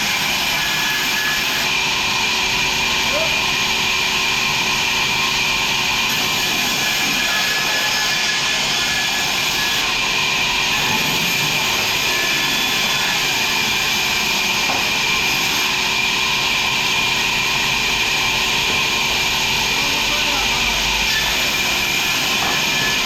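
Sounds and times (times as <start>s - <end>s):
sawmill machinery high-pitched whir: 0.0s - 23.0s.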